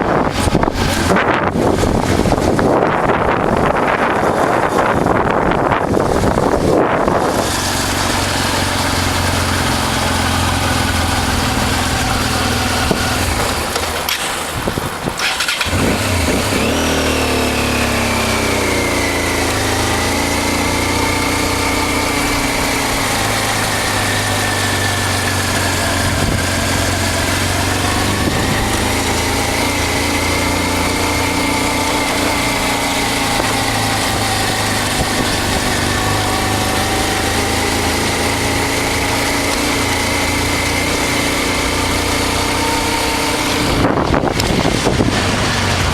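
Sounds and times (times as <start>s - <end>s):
motorcycle engine running: 0.0s - 45.9s
wind noise: 0.0s - 45.9s.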